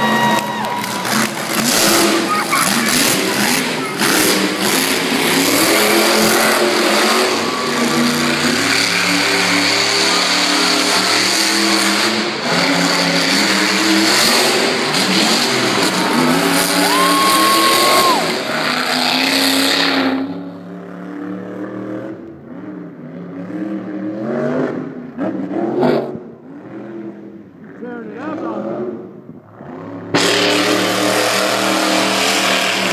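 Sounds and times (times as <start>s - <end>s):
monster truck engine revving: 0.0s - 32.9s.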